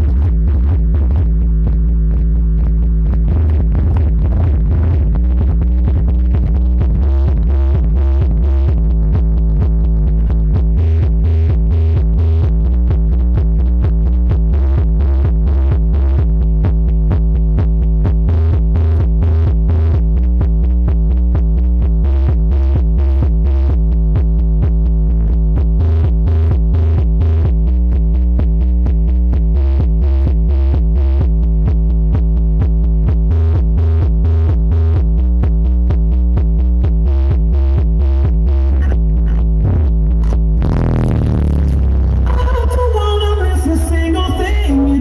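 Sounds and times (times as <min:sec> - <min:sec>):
loud electronic dance music: 0:00.0 - 0:45.0.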